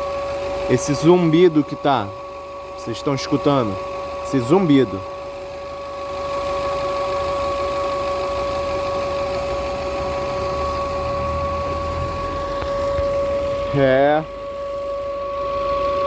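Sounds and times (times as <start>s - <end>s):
car engine with high-pitched whine: 0.0s - 16.0s.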